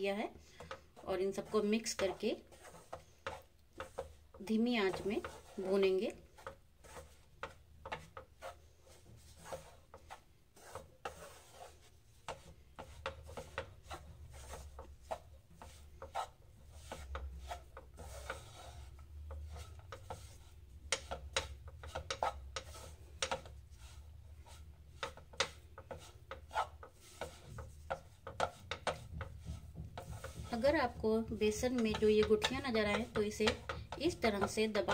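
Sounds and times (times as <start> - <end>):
wooden spatula scraping pan: 0.0 - 34.9.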